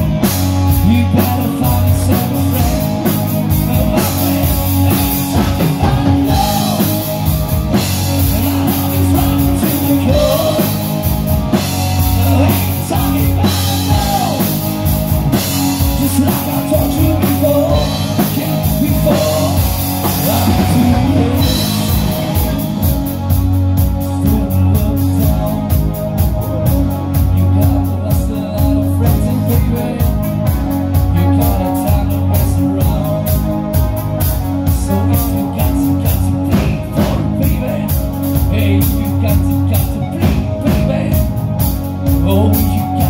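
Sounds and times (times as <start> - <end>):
lead vocals: 0.0 - 43.0
rock band playing: 0.0 - 43.0
steady drum beat: 0.0 - 43.0.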